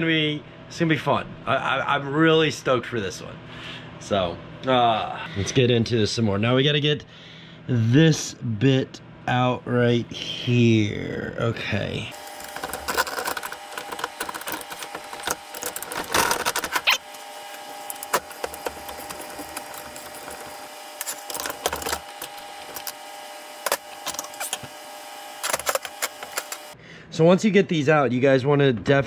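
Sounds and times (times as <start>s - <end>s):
faint steady hum: 0.0s - 27.1s.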